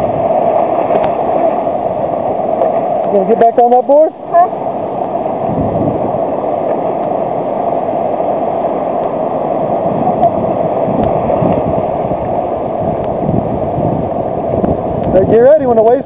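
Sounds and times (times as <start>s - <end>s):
surf washing over sand: 0.0s - 16.0s.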